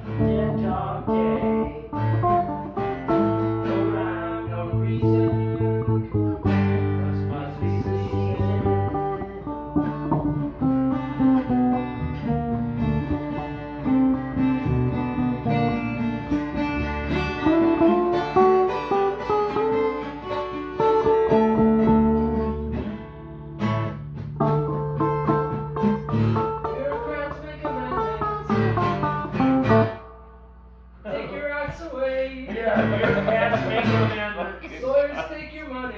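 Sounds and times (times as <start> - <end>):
electric guitar playing: 0.0 - 31.1, 32.6 - 34.4.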